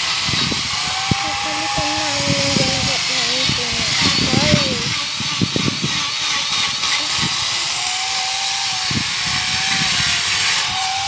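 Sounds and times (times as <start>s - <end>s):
chain grinder cutting wood: 0.0s - 11.0s.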